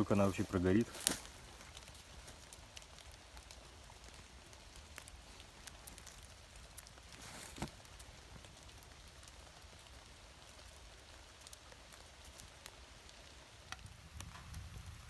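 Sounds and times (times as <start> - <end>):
firewood crackling in a stove: 0.0 - 15.0
low steady hiss: 0.0 - 15.0.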